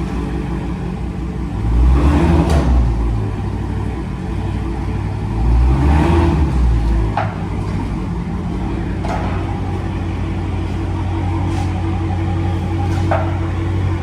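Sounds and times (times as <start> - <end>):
car engine idle rumble: 0.0 - 14.0.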